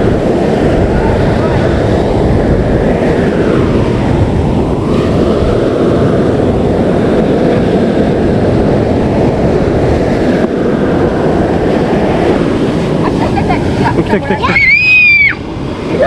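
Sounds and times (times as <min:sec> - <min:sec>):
surf on shore: 0:00.0 - 0:16.0
wind buffeting microphone: 0:00.0 - 0:16.0.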